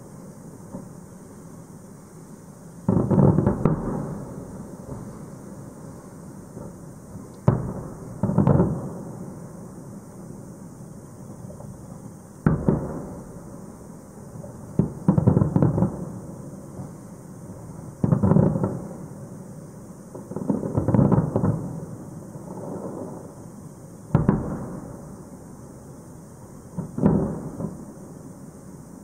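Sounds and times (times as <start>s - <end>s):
fireworks booming: 0.0s - 1.3s, 2.7s - 19.4s, 20.1s - 29.0s.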